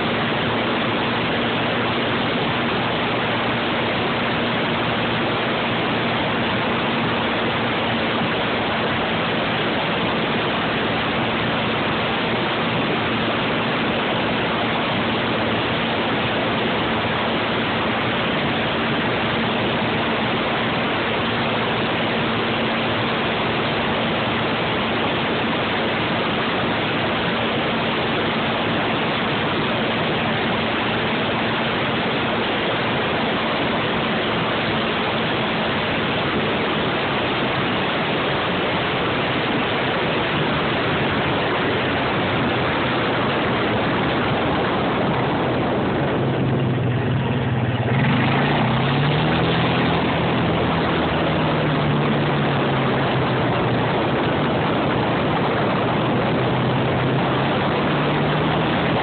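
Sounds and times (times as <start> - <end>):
faint engine hum: 0.0 - 59.0
wind rushing over microphone: 0.0 - 59.0.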